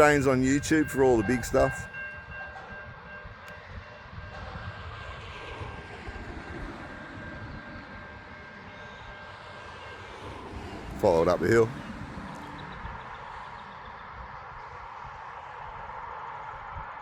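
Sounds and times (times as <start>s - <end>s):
freight train rumbling: 0.0s - 16.0s
high-pitched train whine: 0.0s - 17.0s.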